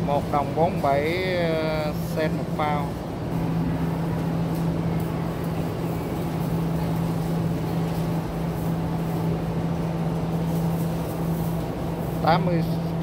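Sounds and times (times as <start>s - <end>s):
indoor store noise: 0.0s - 13.0s
steady low hum: 0.0s - 13.0s.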